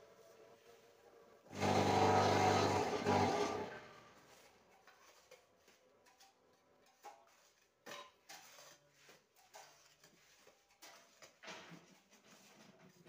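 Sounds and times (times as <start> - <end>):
bar scraping through concrete: 1.5 - 5.4, 6.0 - 12.9.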